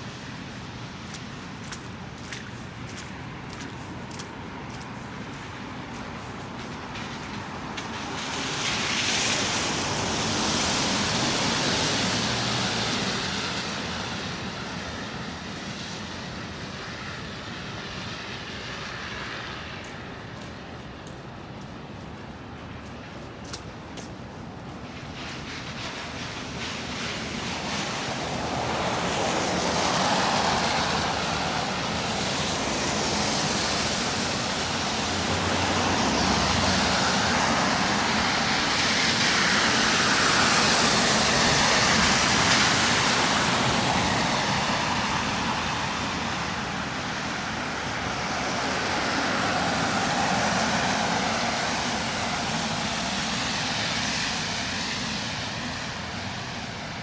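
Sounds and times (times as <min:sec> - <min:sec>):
road traffic tyre noise: 0:00.0 - 0:57.0.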